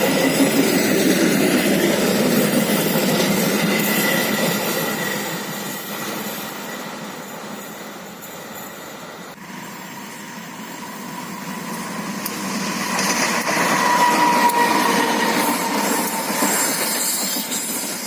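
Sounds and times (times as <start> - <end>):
train running over rails: 0.0 - 18.0.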